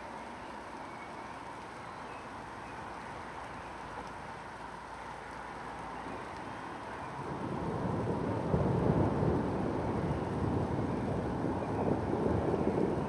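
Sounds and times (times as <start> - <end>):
rain on foliage: 0.0 - 13.0.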